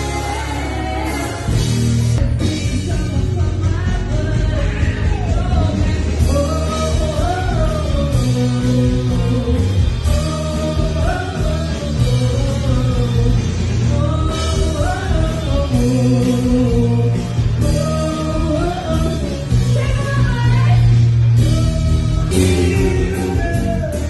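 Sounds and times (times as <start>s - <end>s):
drum kit: 0.0s - 24.0s
electric bass: 0.0s - 24.0s
electric guitar: 0.0s - 24.0s
woman singing: 0.0s - 24.0s.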